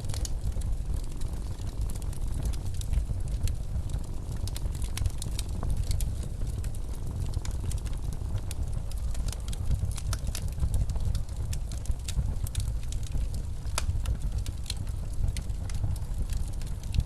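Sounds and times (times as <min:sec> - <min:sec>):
snowstorm wind rumble: 0:00.0 - 0:17.0
wood fire crackling: 0:00.0 - 0:17.0.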